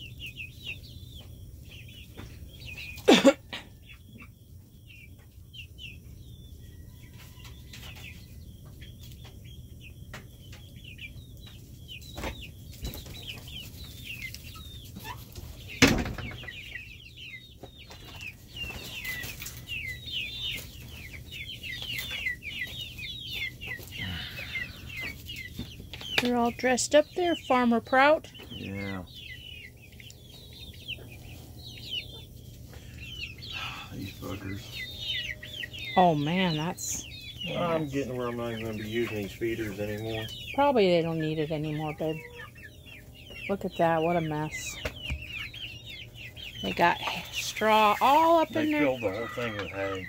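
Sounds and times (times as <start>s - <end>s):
hens peeping and chirping: 0.0s - 50.0s.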